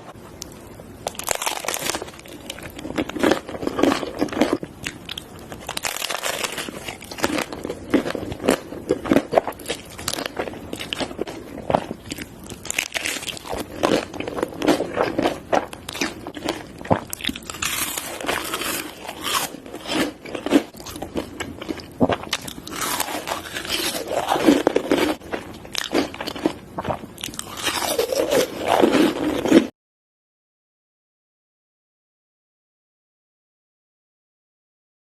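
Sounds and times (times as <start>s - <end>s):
crunchy bites and chewing: 0.4s - 29.7s.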